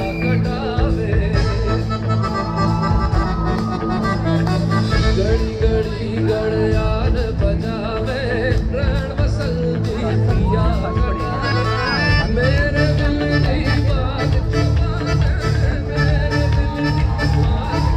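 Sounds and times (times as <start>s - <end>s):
live band music: 0.0s - 17.9s
person singing: 0.0s - 17.9s.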